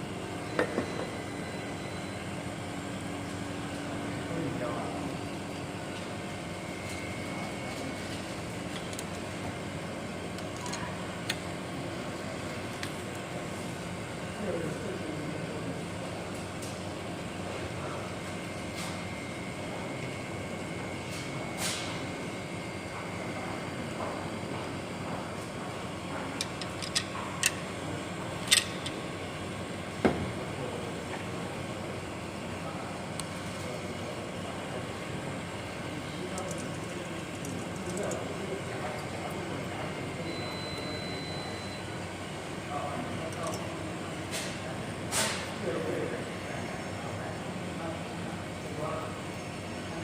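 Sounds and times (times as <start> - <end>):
steady machine hum: 0.0 - 50.0.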